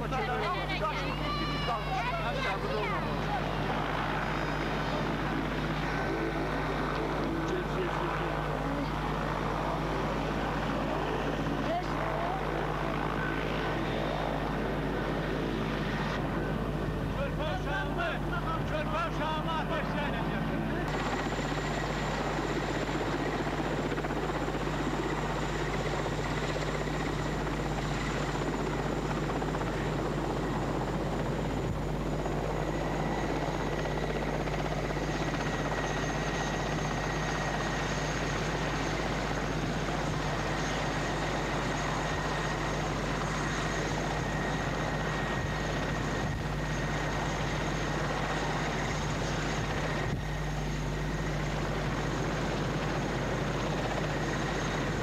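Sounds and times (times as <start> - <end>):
helicopter rotor and turbine noise: 0.0 - 55.0
high turbine whine: 0.0 - 55.0.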